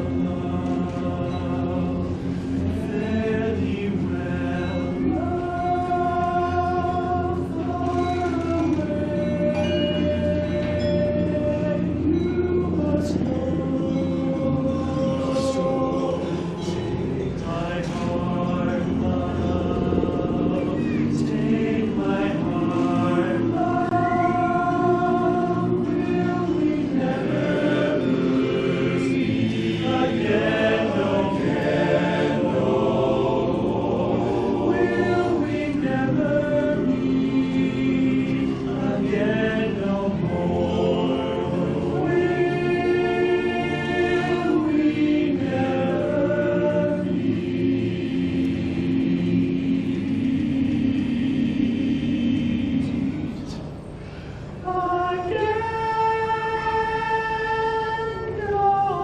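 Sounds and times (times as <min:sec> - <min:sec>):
men's chorus singing a cappella: 0:00.0 - 0:53.8, 0:54.6 - 0:59.0.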